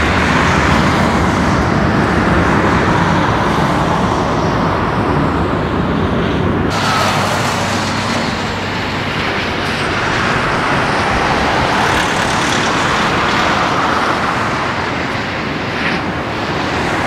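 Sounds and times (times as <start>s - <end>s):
distant jet roar at takeoff: 0.0s - 17.0s.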